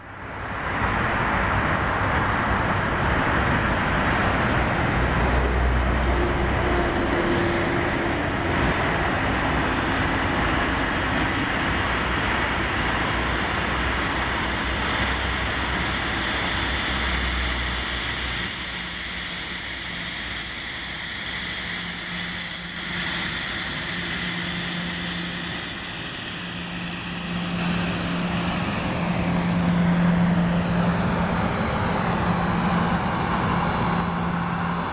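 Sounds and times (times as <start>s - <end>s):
jet engines rumbling: 0.0s - 34.9s
steady low hum: 0.6s - 34.9s.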